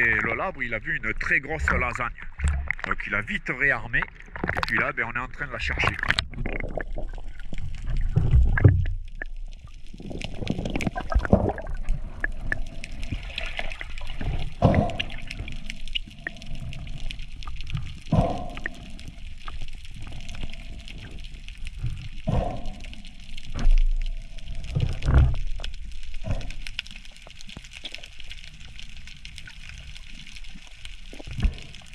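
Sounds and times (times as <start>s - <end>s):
water gurgling and sloshing: 0.0s - 31.9s.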